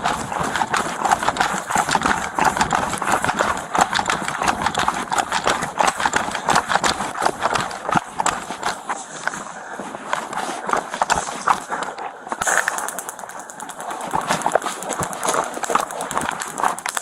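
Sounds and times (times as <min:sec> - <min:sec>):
running footsteps: 0:00.0 - 0:17.0.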